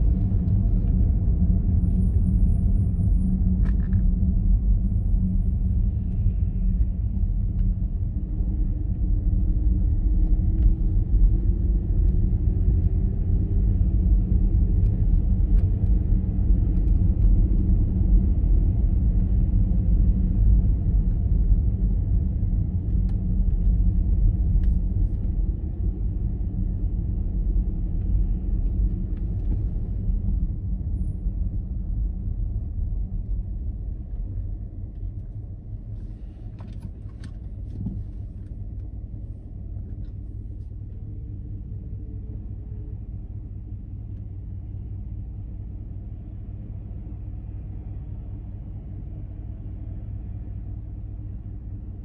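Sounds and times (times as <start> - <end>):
car engine and tyres rumble: 0.0 - 52.0.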